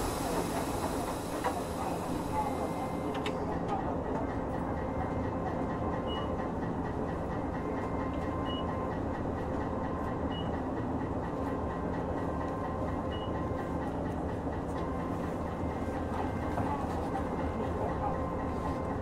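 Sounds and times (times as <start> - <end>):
tram motor hum and rumble: 0.0 - 19.0.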